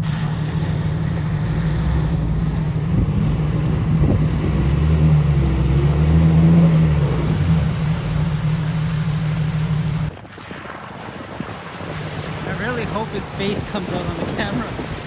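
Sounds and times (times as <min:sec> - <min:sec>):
off-road vehicle engine droning: 0:00.0 - 0:10.1, 0:11.7 - 0:15.0.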